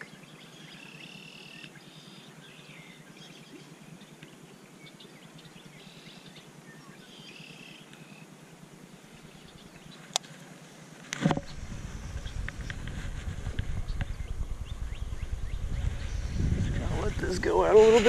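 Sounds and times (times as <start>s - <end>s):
birds chirping: 0.0s - 10.4s, 11.4s - 18.0s
faint outdoor hiss: 0.0s - 18.0s.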